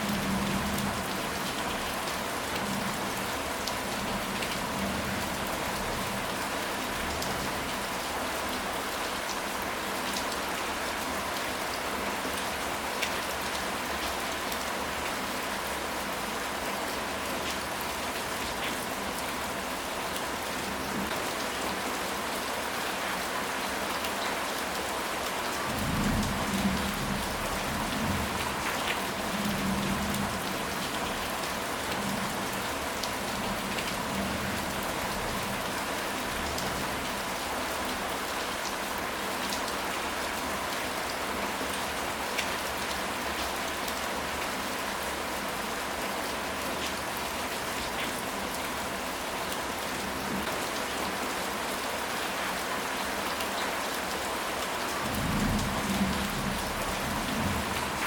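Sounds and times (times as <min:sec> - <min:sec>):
dense rain falling: 0:00.0 - 0:58.0.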